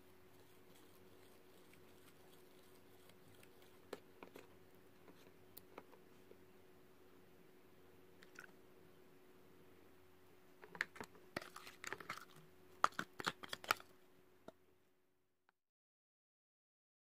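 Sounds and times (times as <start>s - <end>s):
faint steady hum: 0.0s - 15.5s.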